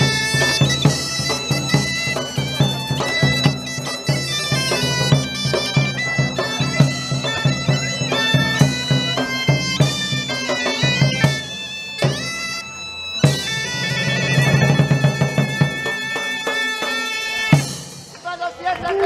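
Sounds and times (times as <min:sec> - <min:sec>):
bagpipe melody over drone: 0:00.0 - 0:18.5
drum beats: 0:00.0 - 0:19.0.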